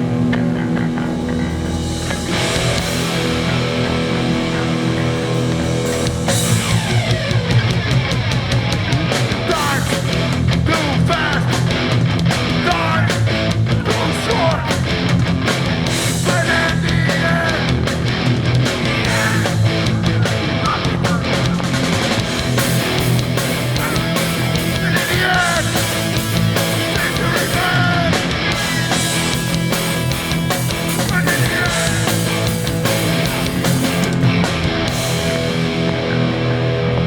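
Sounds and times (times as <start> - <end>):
punk band playing live: 0.0 - 37.0.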